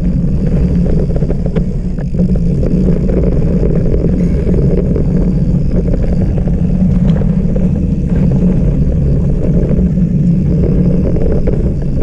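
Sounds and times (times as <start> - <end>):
bike tyres rumbling on trail: 0.0 - 12.0
wind buffeting microphone: 0.0 - 12.0.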